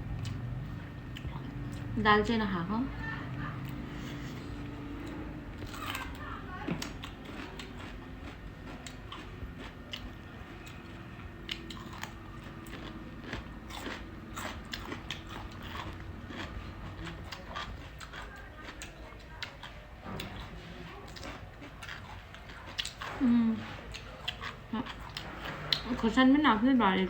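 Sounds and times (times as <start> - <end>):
person chewing food: 0.1 - 2.0, 3.6 - 26.2.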